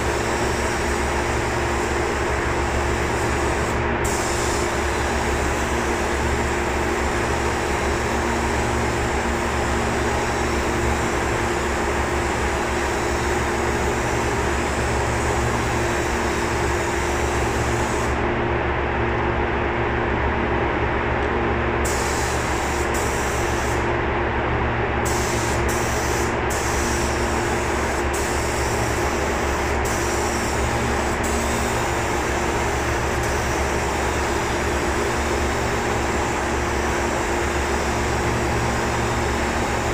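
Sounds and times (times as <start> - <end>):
shop machinery humming: 0.0 - 39.9.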